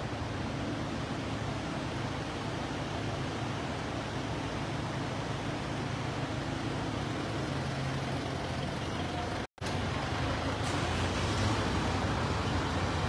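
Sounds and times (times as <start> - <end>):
vehicle engines rumbling with echo: 0.0 - 13.0.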